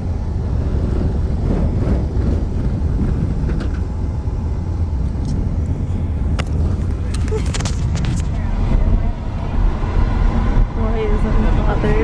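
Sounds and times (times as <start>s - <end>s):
road rumble inside vehicle: 0.0s - 12.0s.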